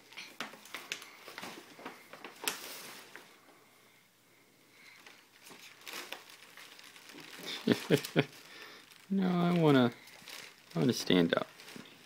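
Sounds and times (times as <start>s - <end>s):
paper bag rustling: 0.0s - 3.4s, 4.9s - 12.0s.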